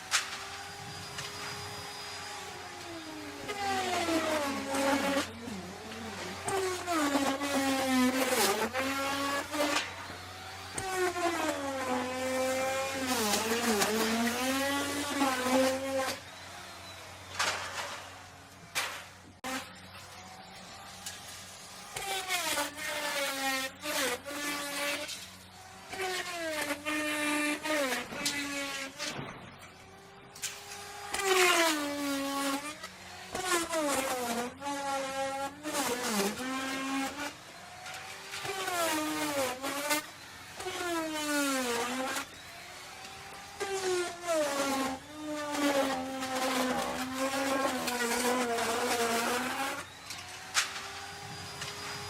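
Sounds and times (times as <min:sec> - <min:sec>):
wood router cutting: 0:00.0 - 0:52.0.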